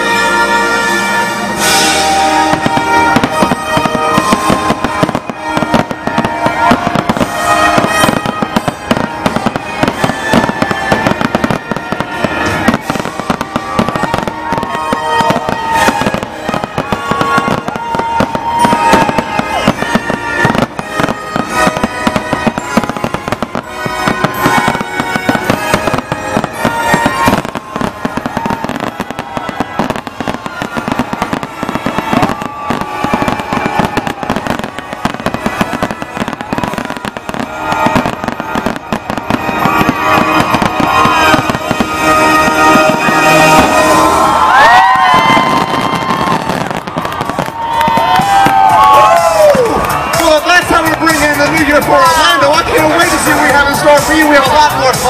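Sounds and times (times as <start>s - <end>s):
fireworks bursting: 0.0s - 55.0s
music playing: 0.0s - 55.0s.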